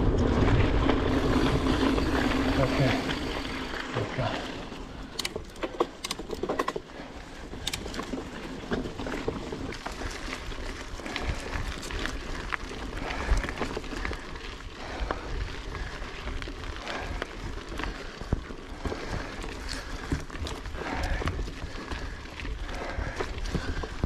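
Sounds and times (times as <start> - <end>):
bike rattling over bumps: 0.0 - 24.0
mountain bike rolling on dirt: 0.0 - 24.0.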